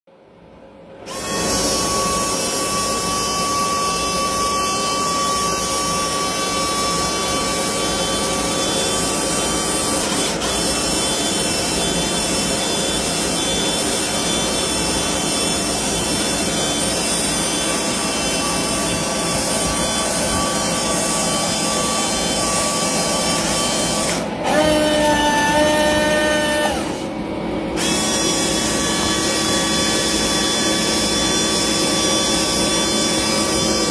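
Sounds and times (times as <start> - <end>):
hydraulic pump whine: 0.9 - 33.9.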